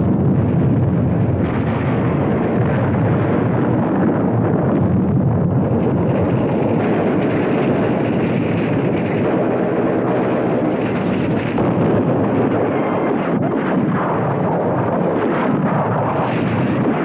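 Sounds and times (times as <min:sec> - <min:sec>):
artillery fire and explosions: 0:00.0 - 0:17.0.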